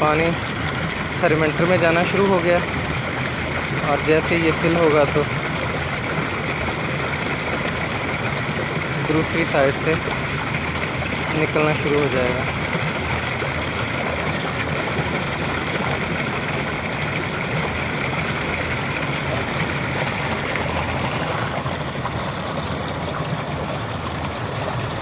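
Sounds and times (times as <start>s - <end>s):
water gushing and splashing: 0.0s - 25.0s.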